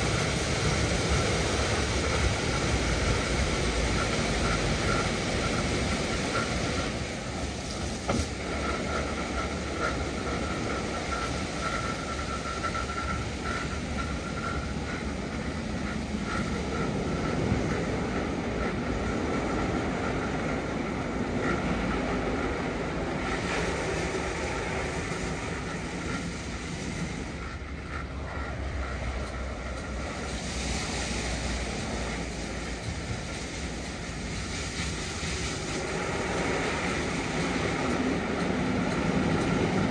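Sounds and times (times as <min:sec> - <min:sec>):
faint machine whine: 0:00.0 - 0:39.9.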